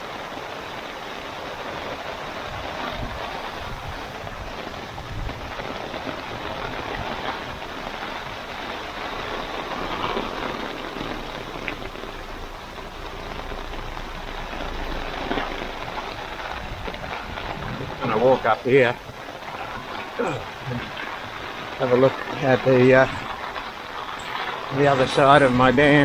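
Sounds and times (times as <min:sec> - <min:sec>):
rain drumming on an umbrella: 0:00.0 - 0:26.0
rushing floodwater: 0:00.0 - 0:26.0.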